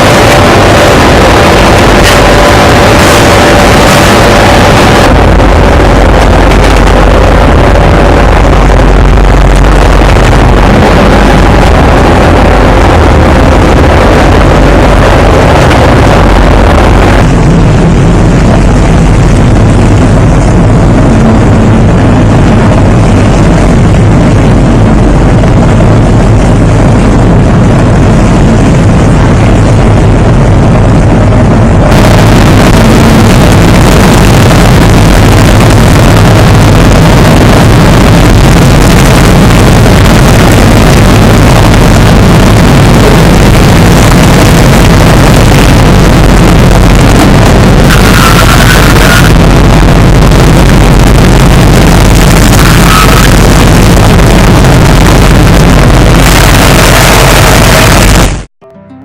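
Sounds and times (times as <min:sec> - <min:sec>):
ship engine hum: 0:00.0 - 0:58.5
wind and water rushing: 0:00.0 - 0:58.5.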